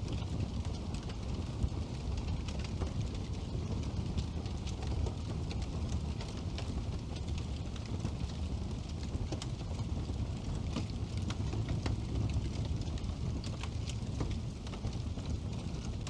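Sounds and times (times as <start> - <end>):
fire rumbling: 0.0 - 16.0
logs crackling and popping: 0.0 - 16.0.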